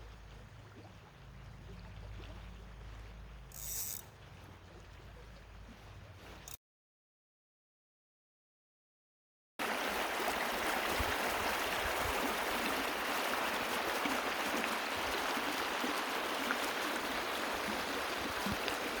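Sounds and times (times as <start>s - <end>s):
creek water running over riffles: 0.0s - 6.6s, 9.6s - 19.0s.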